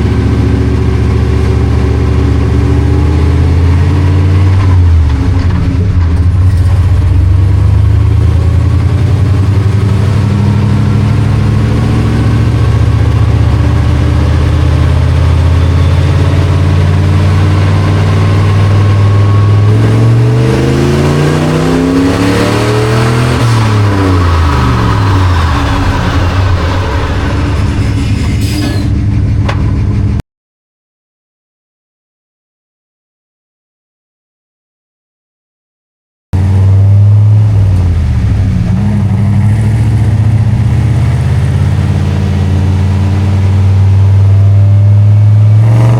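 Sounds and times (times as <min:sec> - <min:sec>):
truck engine running hard: 0:00.0 - 0:30.2, 0:36.4 - 0:45.9.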